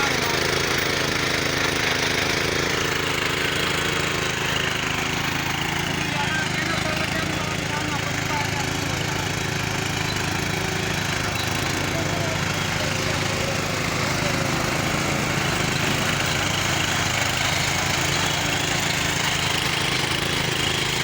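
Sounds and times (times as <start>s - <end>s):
small engine chugging: 0.0s - 21.0s.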